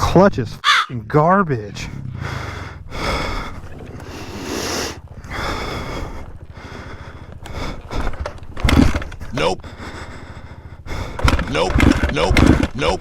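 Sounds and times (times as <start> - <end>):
dirt bike engine running: 0.0 - 13.0
person breathing hard: 2.1 - 12.8.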